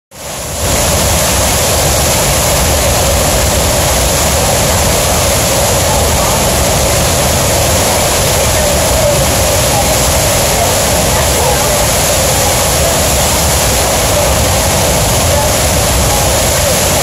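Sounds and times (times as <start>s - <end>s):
waterfall roaring: 0.1s - 17.0s.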